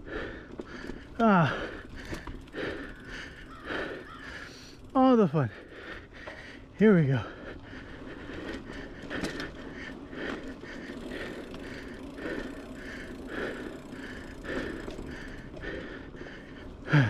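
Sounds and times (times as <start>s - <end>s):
bike tyre and frame rattle: 0.0s - 17.0s
rider breathing hard: 0.0s - 17.0s.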